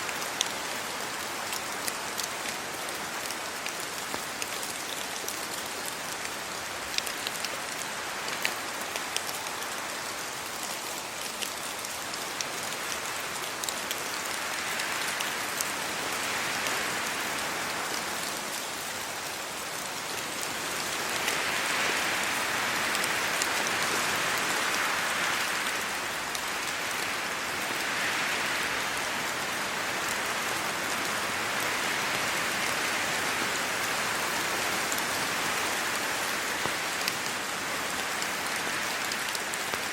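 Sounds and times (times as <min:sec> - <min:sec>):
rain on road and leaves: 0:00.0 - 0:39.9
wind gusts through wet leaves: 0:00.0 - 0:39.9.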